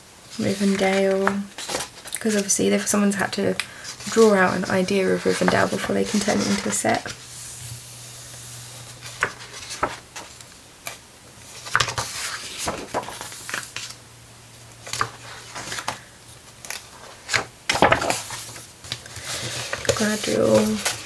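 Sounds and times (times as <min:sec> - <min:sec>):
book pages turning: 0:00.4 - 0:02.9, 0:04.0 - 0:07.9, 0:08.8 - 0:14.0, 0:14.8 - 0:16.0, 0:16.6 - 0:21.0.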